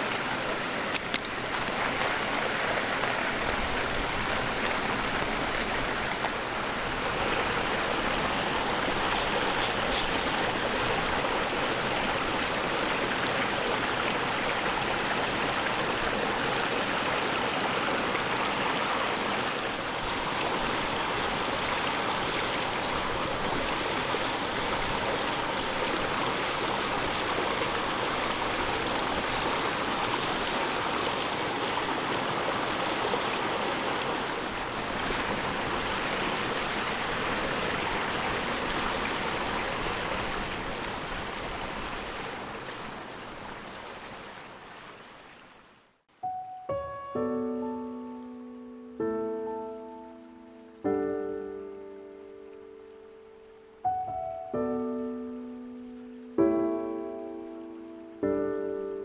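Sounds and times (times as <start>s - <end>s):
stream water rushing: 0.0s - 46.0s, 47.8s - 59.0s.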